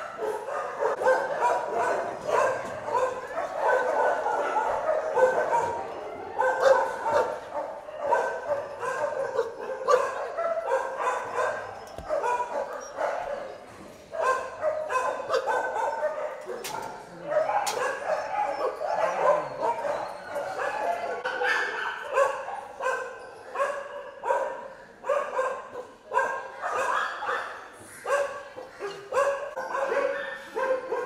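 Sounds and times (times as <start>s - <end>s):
many dogs barking and yelping: 0.0s - 31.0s.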